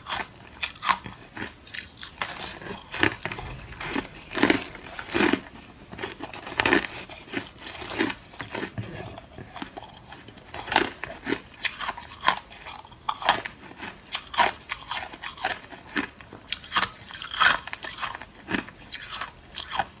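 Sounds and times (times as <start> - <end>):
person chewing ice: 0.0 - 20.0.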